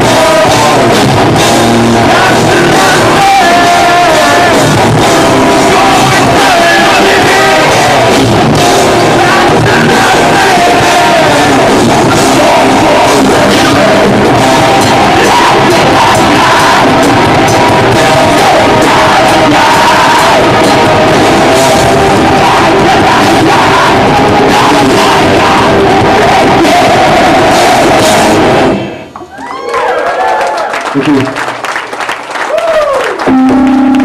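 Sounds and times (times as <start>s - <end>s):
pounding drums: 0.0s - 28.8s
metal band playing live: 0.0s - 29.0s
distorted guitars: 0.0s - 29.2s, 33.2s - 34.0s
crowd noise: 0.0s - 34.0s.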